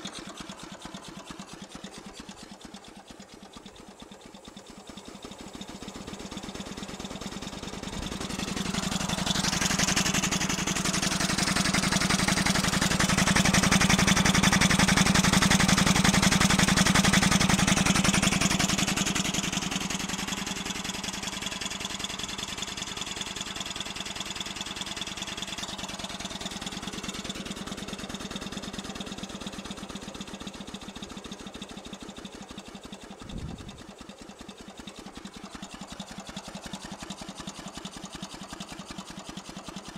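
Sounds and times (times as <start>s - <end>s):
steam engine exhaust chuffs: 0.0s - 39.9s.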